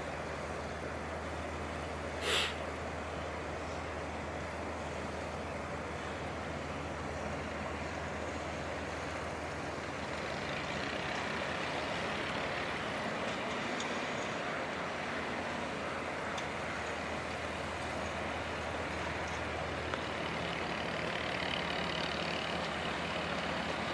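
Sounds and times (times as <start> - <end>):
constant rush of noise: 0.0 - 23.9
diesel engines humming: 0.0 - 23.9.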